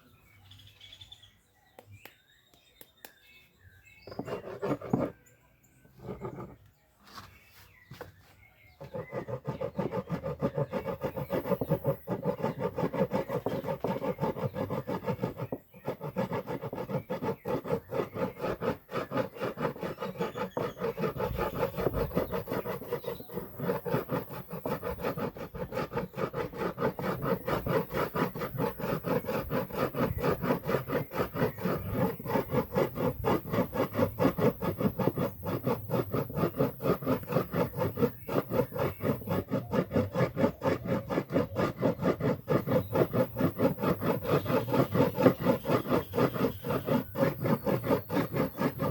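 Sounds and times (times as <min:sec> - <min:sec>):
hand tool rubbing on wood: 0:04.1 - 0:05.2, 0:06.0 - 0:48.9.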